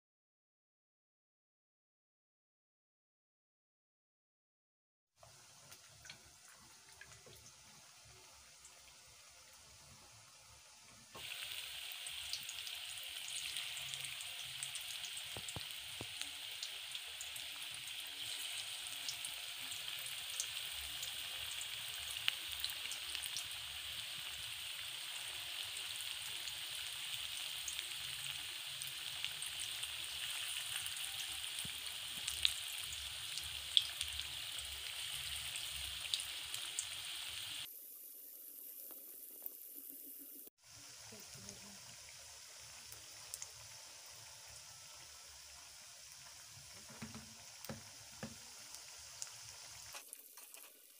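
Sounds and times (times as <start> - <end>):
food deep-frying in oil: 5.2 - 50.9.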